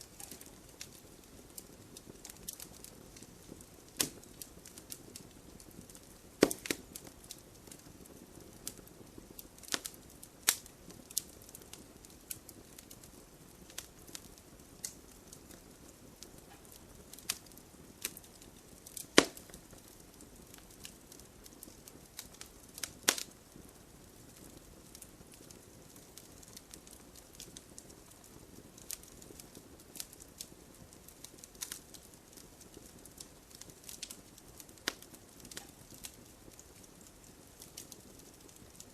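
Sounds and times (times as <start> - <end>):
soft steady hiss: 0.0 - 38.9
wood fire crackling and popping: 0.0 - 38.9.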